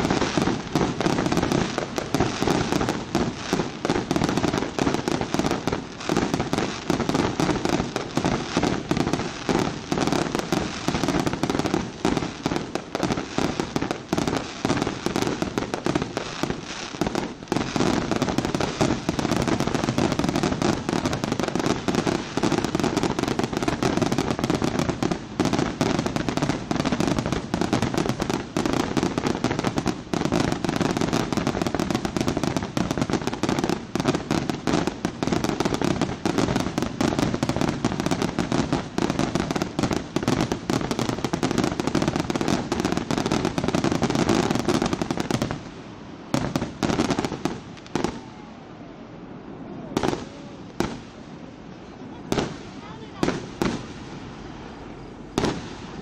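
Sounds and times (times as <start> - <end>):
fireworks popping and banging: 0.0 - 45.7, 46.3 - 48.3, 50.0 - 51.1, 52.2 - 54.0, 55.4 - 56.0.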